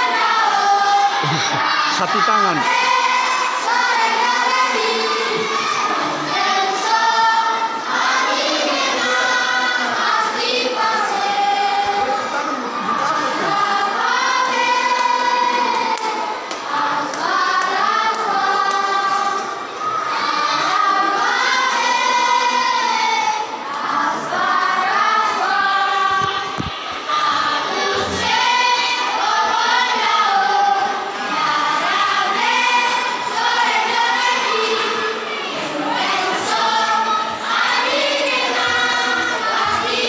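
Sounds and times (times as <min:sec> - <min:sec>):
children's choir singing: 0:00.0 - 0:40.0.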